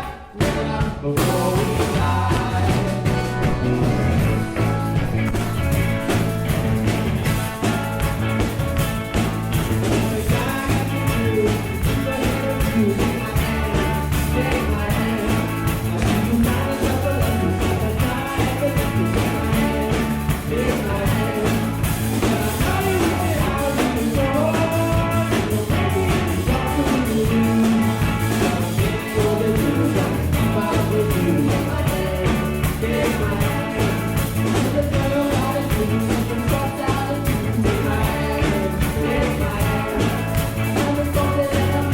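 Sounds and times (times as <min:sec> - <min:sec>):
bass guitar: 0:00.0 - 0:41.9
drums: 0:00.0 - 0:41.9
guitar: 0:00.0 - 0:41.9.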